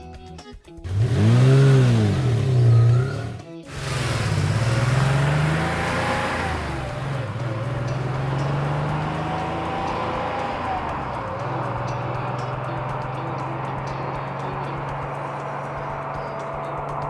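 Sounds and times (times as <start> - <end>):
cartoon engine hum: 0.9 - 17.0.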